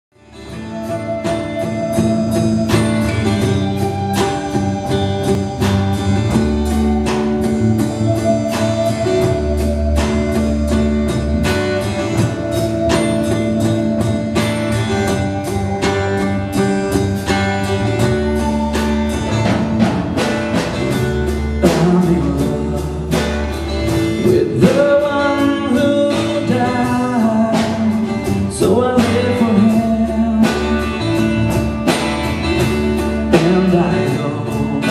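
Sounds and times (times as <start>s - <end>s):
rock band playing: 0.1s - 34.9s
drum kit beat: 0.2s - 34.9s
sliding lead guitar line: 0.2s - 34.9s.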